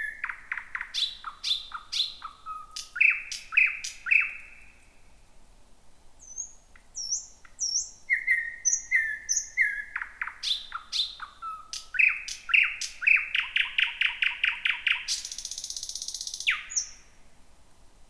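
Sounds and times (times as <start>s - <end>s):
nightingale singing: 0.0s - 4.8s, 6.2s - 17.2s.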